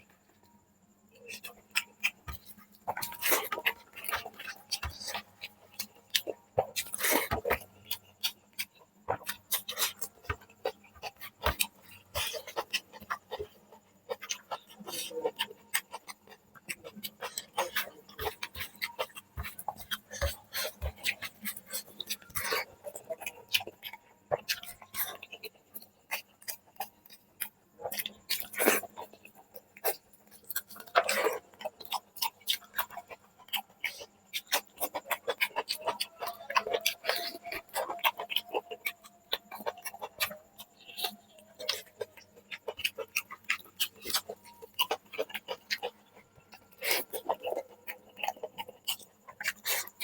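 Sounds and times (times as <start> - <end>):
slurping or crunching: 1.2 - 50.0
wet chewing and lip smacks: 1.2 - 50.0.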